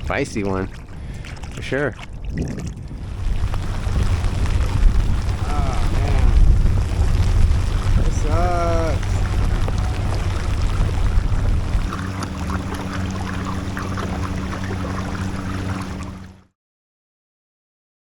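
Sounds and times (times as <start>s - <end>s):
steady low hum: 0.0s - 16.4s
water sloshing: 0.0s - 16.4s
wind rumbling on microphone: 0.0s - 16.4s.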